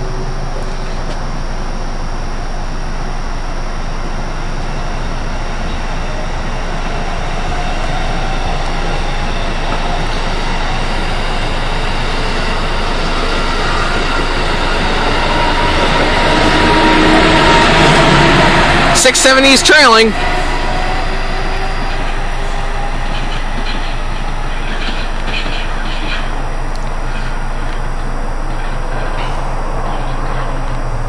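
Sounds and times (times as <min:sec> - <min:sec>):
train wheels rumbling on rail: 0:00.0 - 0:03.2, 0:04.0 - 0:31.0.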